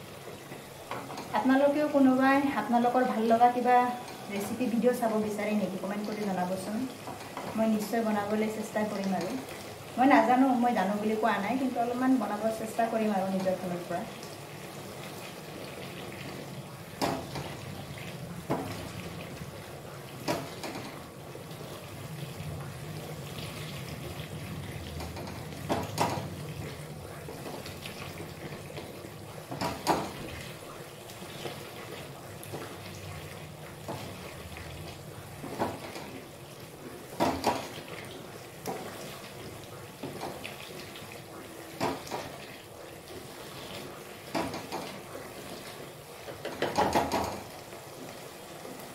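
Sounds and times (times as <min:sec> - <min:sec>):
wet sizzle and swish in a wok: 0:00.0 - 0:48.9.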